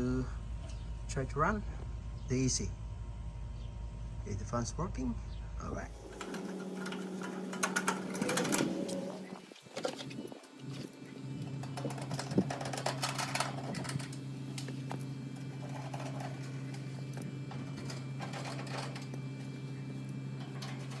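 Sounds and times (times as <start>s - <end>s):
air conditioner unit humming: 0.0s - 21.0s.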